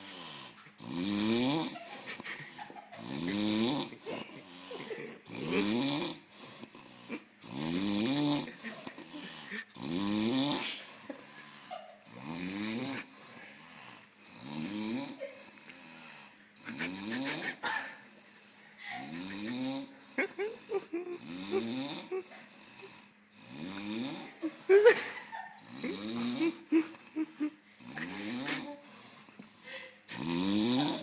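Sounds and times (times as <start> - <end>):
heavy snoring: 0.0 - 31.0.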